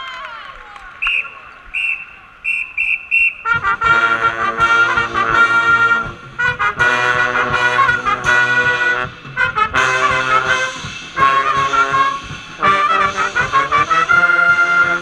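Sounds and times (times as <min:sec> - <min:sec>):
brass band playing: 0:02.5 - 0:15.0.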